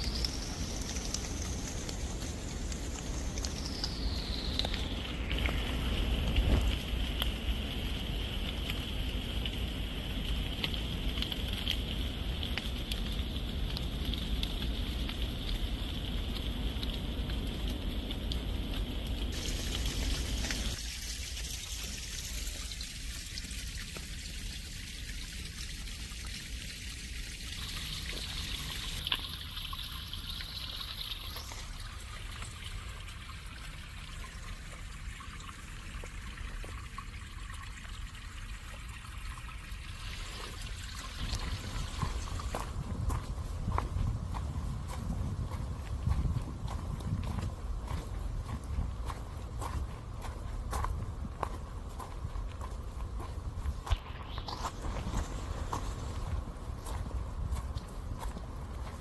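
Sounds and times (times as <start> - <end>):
rain falling in forest: 0.0 - 59.0
water trickling through drainage pipe: 0.0 - 59.0.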